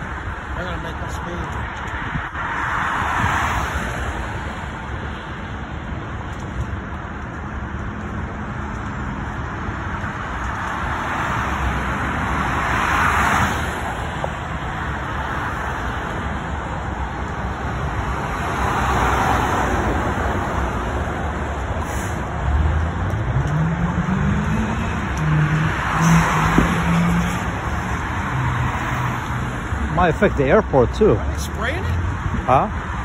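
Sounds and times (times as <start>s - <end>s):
highway road rumble: 0.0s - 33.0s
vehicles passing by: 0.0s - 33.0s.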